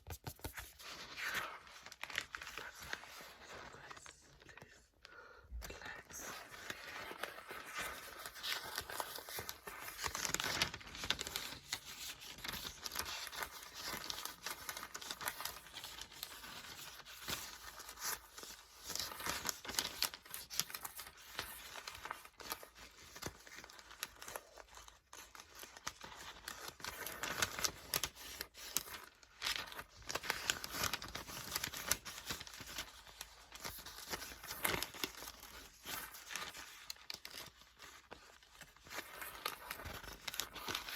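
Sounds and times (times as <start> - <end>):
book pages being turned: 0.0 - 4.8, 5.6 - 40.9.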